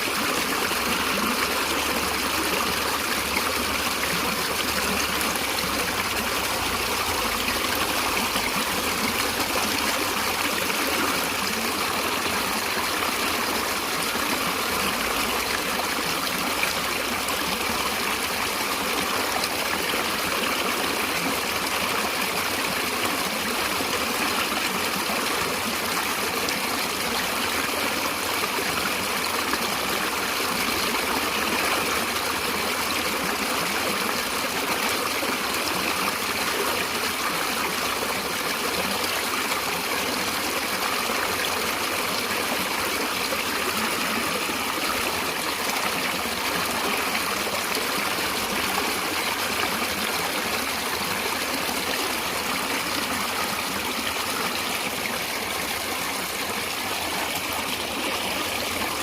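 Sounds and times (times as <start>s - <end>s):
water running over rocks: 0.0s - 59.0s.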